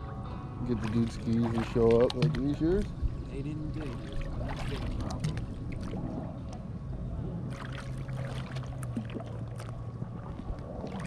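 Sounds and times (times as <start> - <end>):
low rumble: 0.0 - 11.0
steady low drone: 0.0 - 11.0
water splashing and trickling: 0.6 - 6.6, 7.5 - 11.0.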